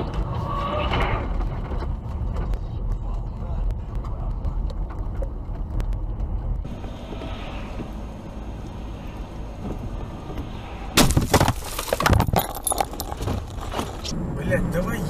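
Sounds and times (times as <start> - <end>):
road and engine rumble: 0.0 - 15.0.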